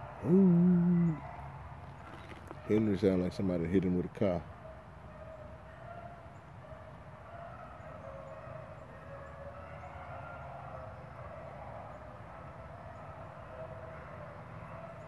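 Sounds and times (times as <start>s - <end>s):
distant dogs baying: 0.0s - 15.0s.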